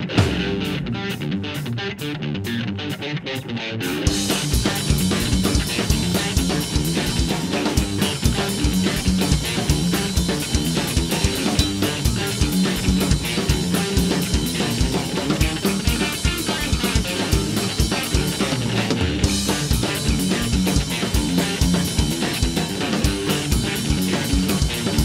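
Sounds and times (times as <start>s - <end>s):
drum kit with ringing cymbals: 0.0s - 1.6s, 4.0s - 25.0s
electric bass: 0.0s - 25.0s
electric guitar: 0.0s - 25.0s.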